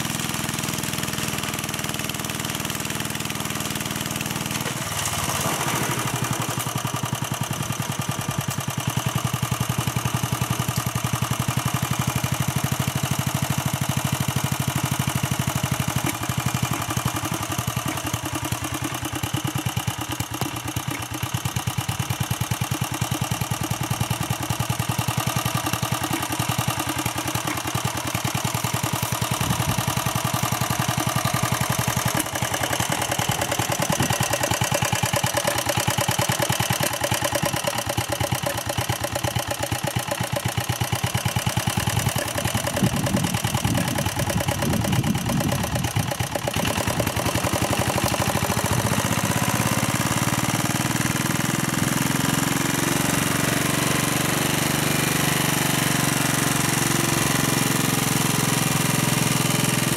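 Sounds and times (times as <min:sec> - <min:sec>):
walk-behind tractor engine running: 0:00.0 - 0:59.9.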